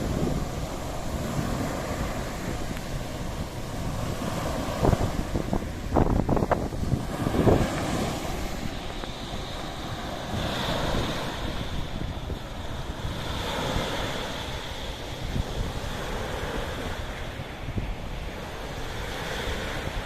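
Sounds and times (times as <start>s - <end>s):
sea waves washing in: 0.0s - 20.0s
wind rumbling on microphone: 0.0s - 20.0s.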